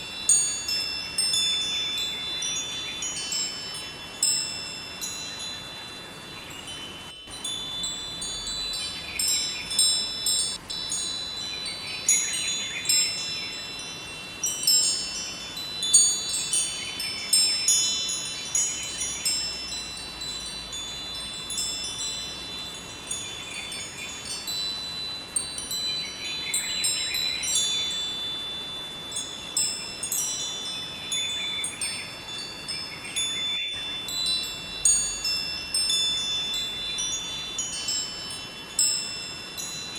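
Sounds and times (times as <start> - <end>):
river flowing: 0.0 - 39.9
wind chimes ringing: 0.0 - 39.9.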